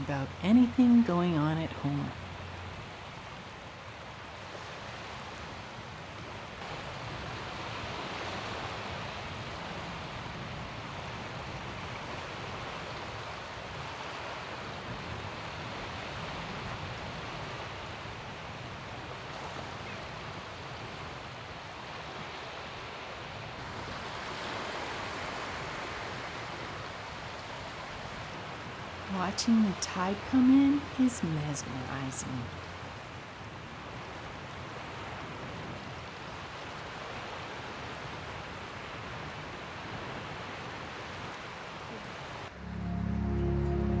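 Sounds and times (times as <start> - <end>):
small waves washing on shore: 0.0 - 42.6.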